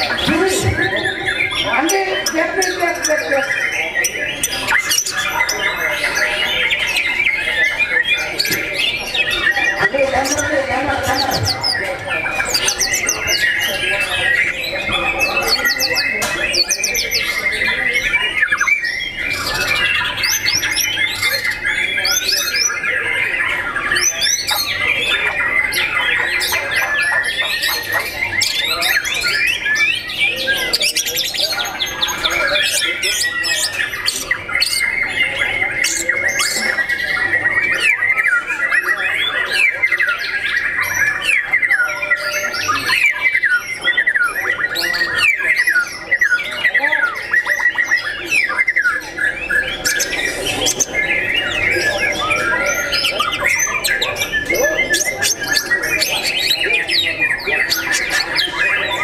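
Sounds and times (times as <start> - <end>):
other songbirds calling: 0.0 - 59.0.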